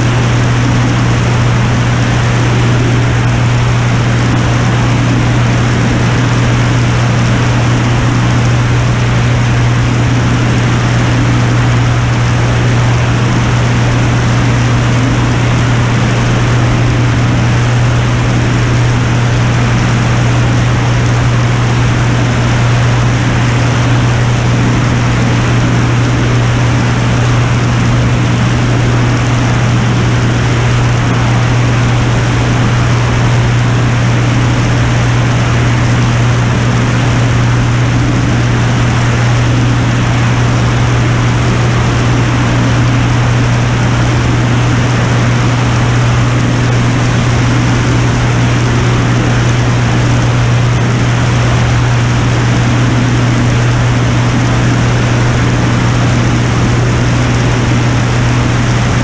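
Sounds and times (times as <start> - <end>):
aircraft engine droning: 0.0 - 59.0.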